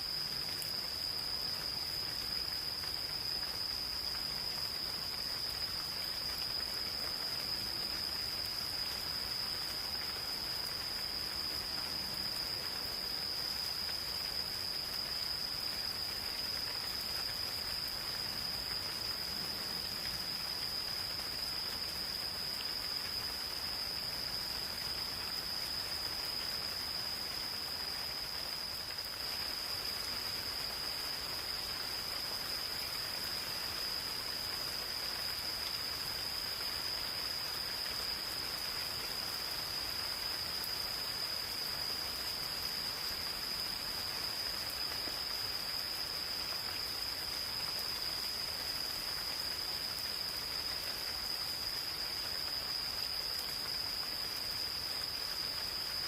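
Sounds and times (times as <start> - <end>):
gentle rain falling: 0.0 - 56.0
high-pitched insect trill: 0.0 - 56.0.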